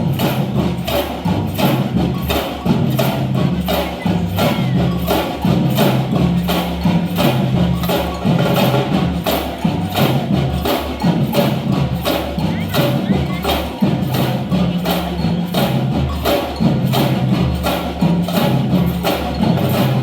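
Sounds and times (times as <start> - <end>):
samba percussion band: 0.0 - 20.0
wood block clacks: 0.0 - 20.0.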